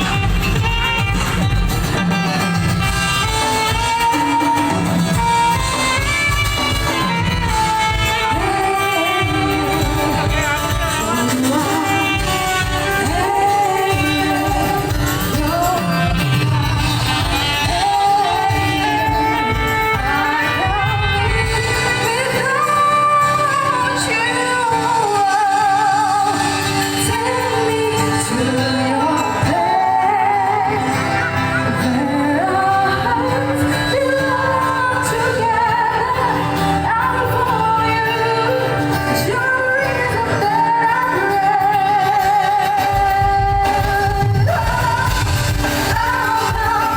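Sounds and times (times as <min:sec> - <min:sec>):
musical accompaniment: 0:00.0 - 0:46.9
person singing with vibrato: 0:00.0 - 0:46.9.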